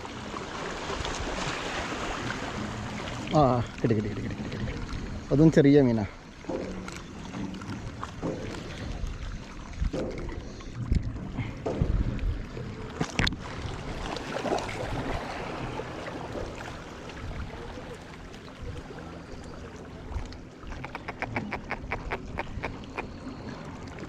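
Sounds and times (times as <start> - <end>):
outdoor water noise: 0.0 - 24.0.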